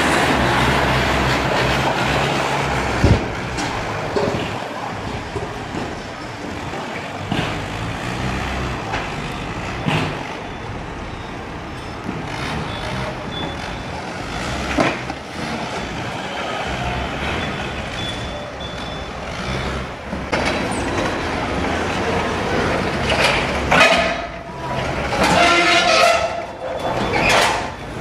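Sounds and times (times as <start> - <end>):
forklift engines running: 0.0 - 28.0.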